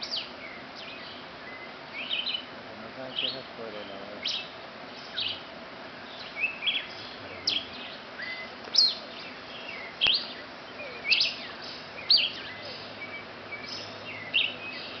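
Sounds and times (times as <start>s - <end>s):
small bird chirping: 0.0s - 2.5s, 3.1s - 15.0s
faint steady hiss: 0.0s - 15.0s.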